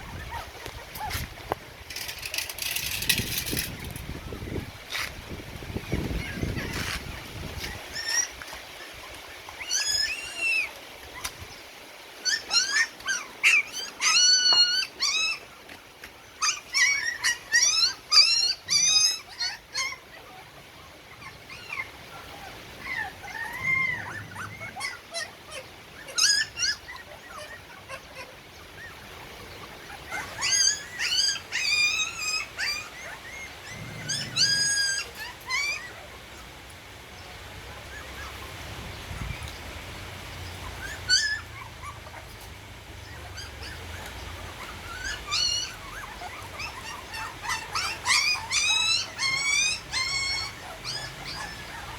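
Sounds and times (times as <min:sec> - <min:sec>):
puppies whimpering and squealing: 0:00.0 - 0:36.6, 0:37.5 - 0:39.6, 0:40.4 - 0:51.9.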